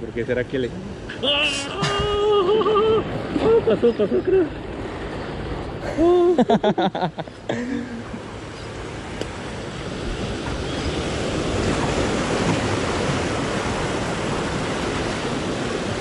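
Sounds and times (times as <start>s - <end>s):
waves splashing against concrete blocks: 0.5s - 16.0s.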